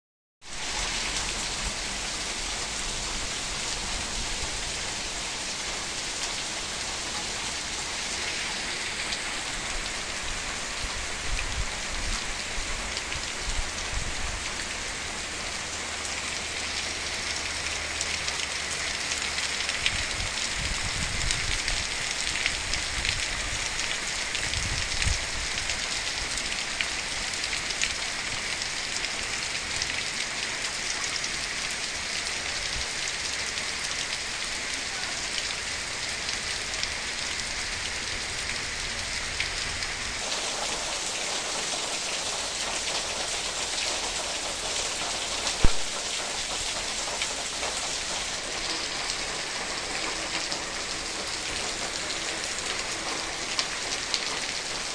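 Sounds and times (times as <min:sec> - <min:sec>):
heavy rain pouring on foliage: 0:00.4 - 0:54.9
raindrops ticking close by: 0:00.7 - 0:54.9.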